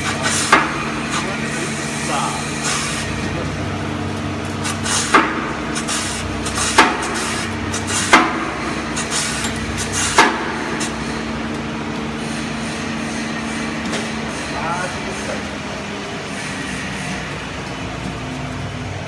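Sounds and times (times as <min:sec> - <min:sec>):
plastic agglomerator humming: 0:00.0 - 0:19.0.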